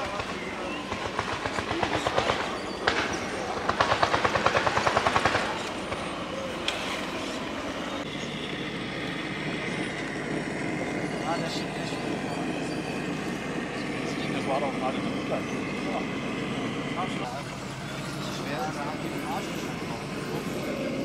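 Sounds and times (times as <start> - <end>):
rhythmic mechanical chugging: 0.0 - 21.0.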